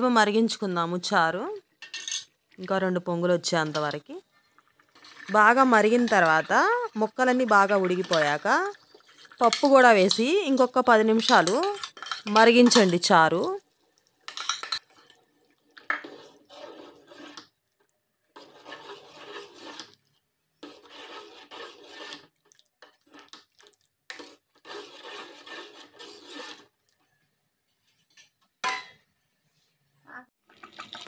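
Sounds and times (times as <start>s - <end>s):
spoon stirring thick stew: 3.3s - 28.4s.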